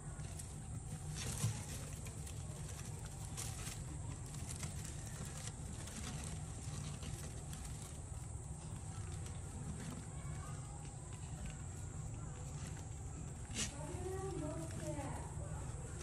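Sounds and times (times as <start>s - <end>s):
dry hay rustling: 0.0s - 16.0s
low hum and hiss: 0.0s - 16.0s.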